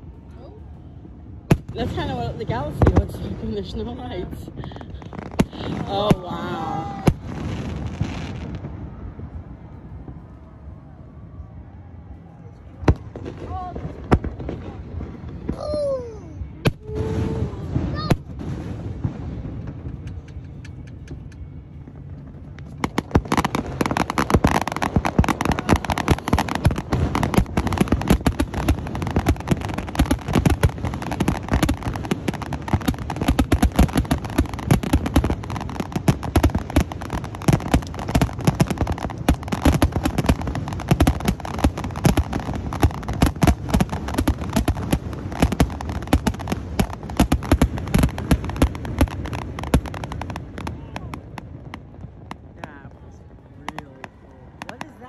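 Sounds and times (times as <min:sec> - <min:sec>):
fireworks bangs and crackling: 0:01.0 - 0:10.9, 0:12.6 - 0:55.0.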